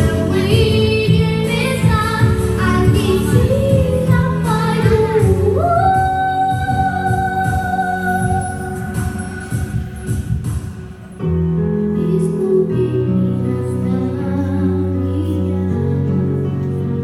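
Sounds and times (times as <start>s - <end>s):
woman singing: 0.0s - 9.8s, 11.8s - 17.0s
low musical accompaniment: 0.0s - 17.0s.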